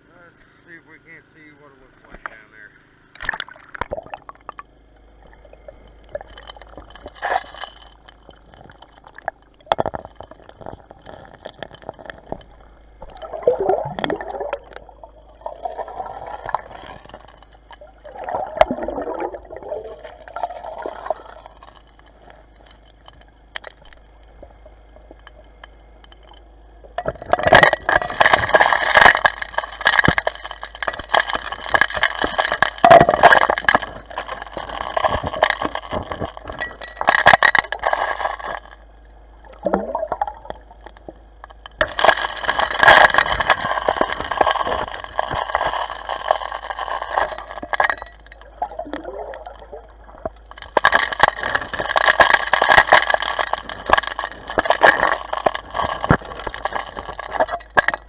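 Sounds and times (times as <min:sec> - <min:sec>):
water gurgling underwater: 0:03.1 - 0:26.0, 0:26.7 - 0:58.0.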